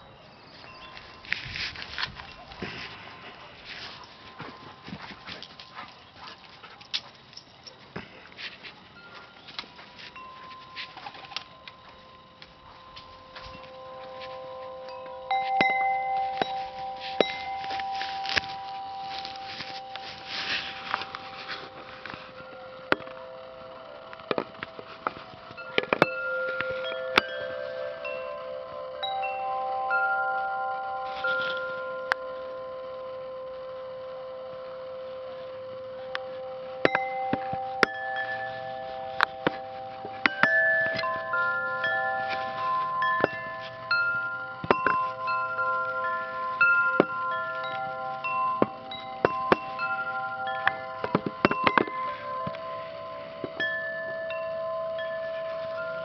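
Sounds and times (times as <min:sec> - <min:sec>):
metal wind chime ringing: 0:00.0 - 0:56.0.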